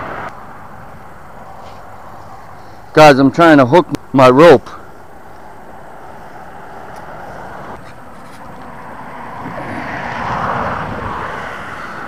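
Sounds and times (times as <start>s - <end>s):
vehicle passing: 0.0s - 3.7s, 4.7s - 12.0s.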